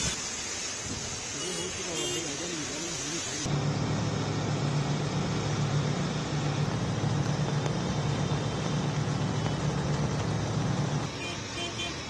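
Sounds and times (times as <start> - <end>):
hiss of rain and wet road: 0.0 - 12.0
traffic engine hum: 0.0 - 12.0.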